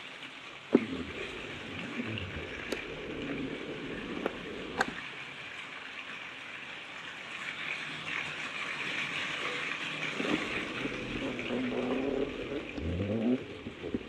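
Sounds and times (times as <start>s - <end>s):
rain falling on lawn and water: 0.0s - 14.0s.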